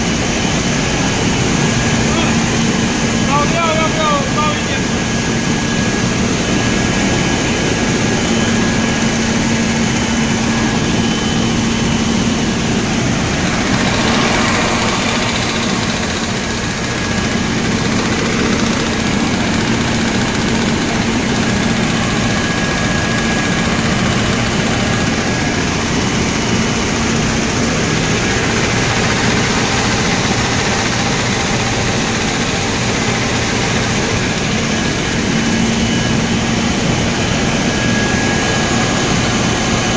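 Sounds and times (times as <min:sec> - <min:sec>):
machinery drone: 0:00.0 - 0:39.9.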